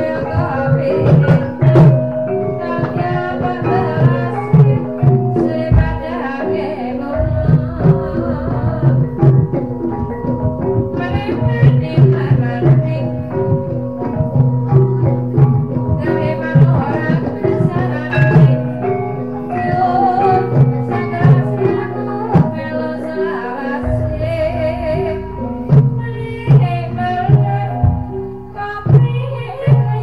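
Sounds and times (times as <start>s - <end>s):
hand drum strokes: 0.0s - 30.0s
tuned metal percussion pattern: 0.0s - 30.0s.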